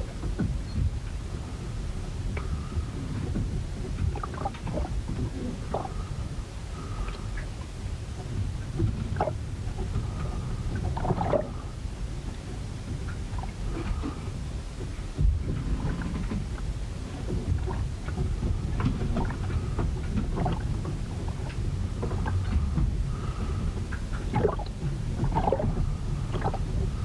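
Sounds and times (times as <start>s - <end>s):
rumble of wind and water: 0.0s - 27.0s
wooden hull creaks and knocks: 0.0s - 27.0s.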